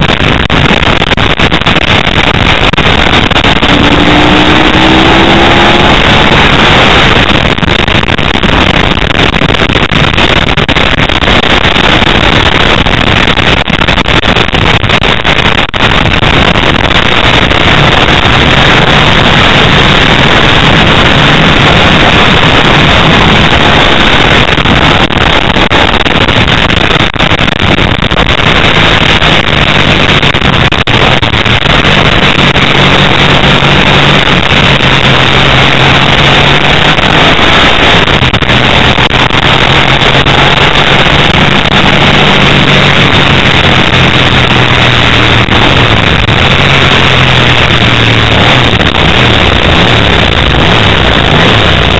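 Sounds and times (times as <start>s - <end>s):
motorcycle engine running: 0.0s - 51.9s
wind rush on microphone: 0.0s - 51.9s.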